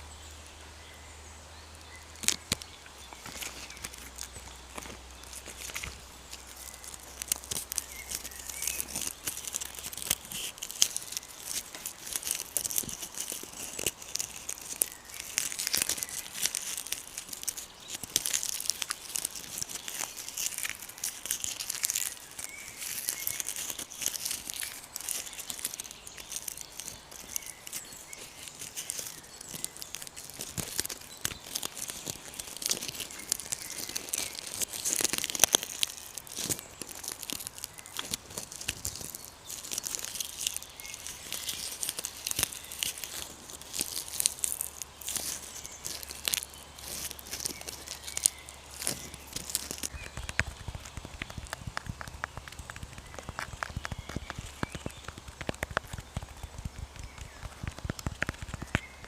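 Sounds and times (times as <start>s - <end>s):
dry leaves crinkling: 0.0s - 59.0s.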